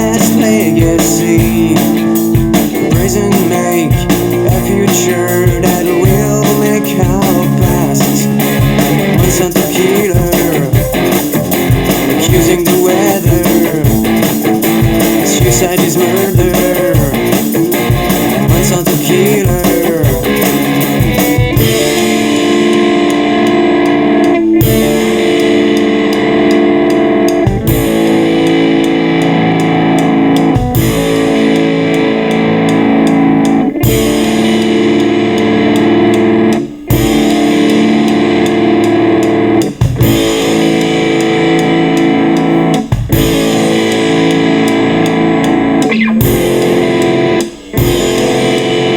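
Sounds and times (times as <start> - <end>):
heavy drum hit: 0.0 - 23.3, 27.3 - 35.9, 36.7 - 48.9
electric guitar lead: 0.0 - 48.9.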